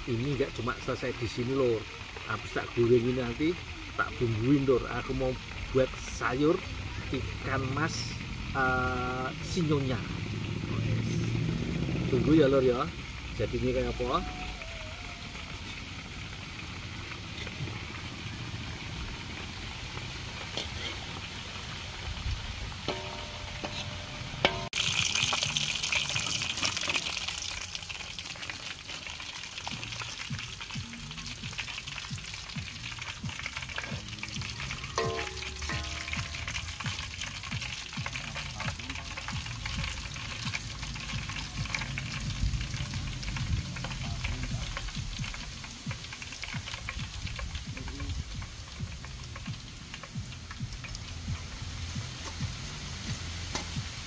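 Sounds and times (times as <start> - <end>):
fish sizzling in oil: 0.0 - 54.0.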